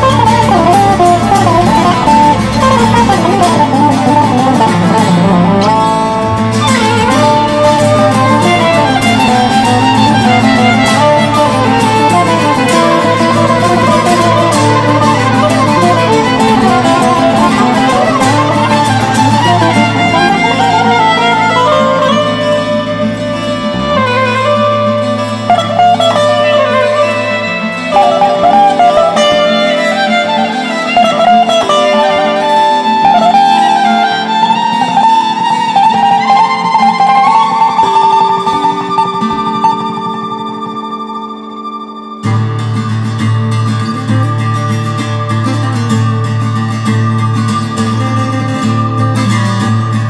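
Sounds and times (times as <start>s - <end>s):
melody over held notes: 0.0s - 50.0s.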